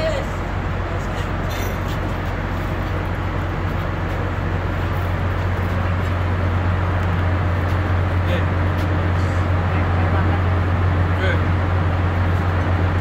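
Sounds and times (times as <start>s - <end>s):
ship machinery drone: 0.0s - 13.0s.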